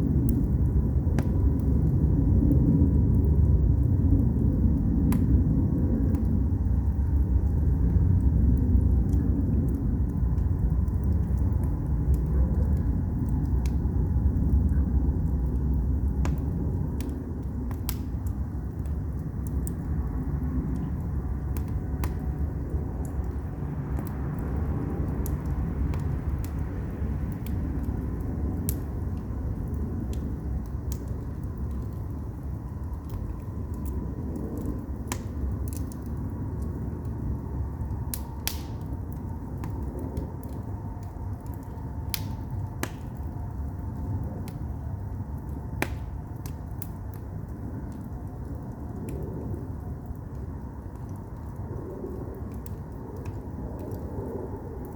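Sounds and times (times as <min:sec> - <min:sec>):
fire rumbling: 0:00.0 - 0:54.9
logs crackling and popping: 0:00.0 - 0:54.9.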